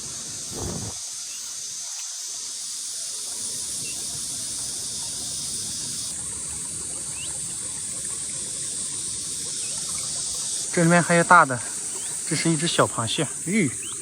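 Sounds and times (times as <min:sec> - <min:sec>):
high hiss: 0:00.0 - 0:14.0
stream water flowing: 0:00.0 - 0:14.0.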